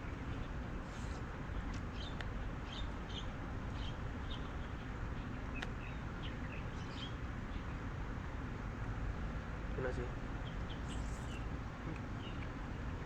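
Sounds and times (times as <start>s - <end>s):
small birds chirping: 0.0s - 8.9s, 9.8s - 13.0s
steady background hiss: 0.0s - 13.0s.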